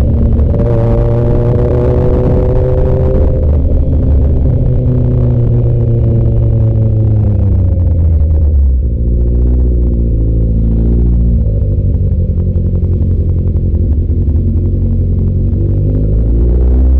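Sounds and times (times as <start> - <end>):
motorcycle engine at low revs: 0.0 - 16.9.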